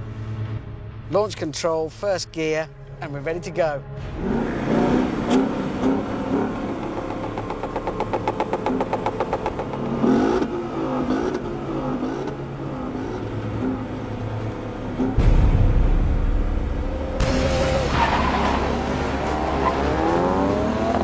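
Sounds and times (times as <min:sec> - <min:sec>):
car engine revving: 0:04.0 - 0:21.0.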